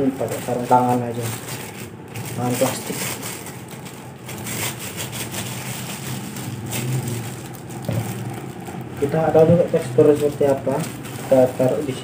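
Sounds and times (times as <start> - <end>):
plastic gloves crinkling: 0.0 - 12.0
steady low hum: 0.0 - 12.0.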